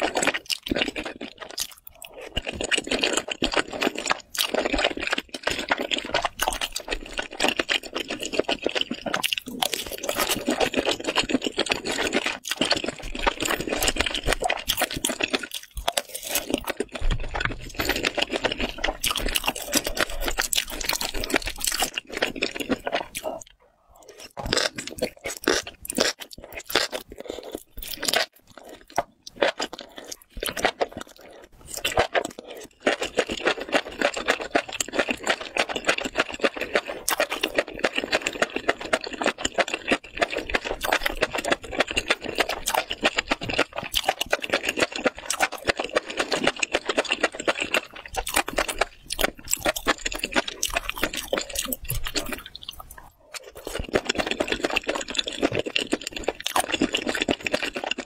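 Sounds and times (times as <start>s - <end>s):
close chewing and crunching: 0.0s - 58.0s.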